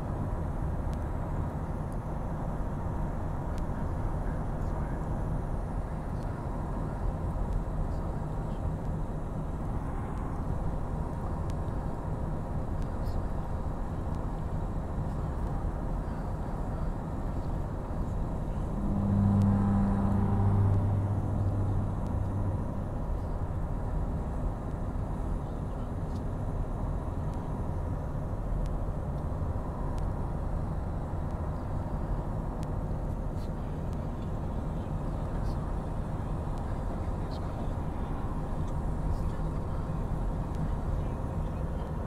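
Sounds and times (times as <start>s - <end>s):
low hum: 0.0s - 42.0s
vehicle rumble inside car: 0.0s - 42.0s.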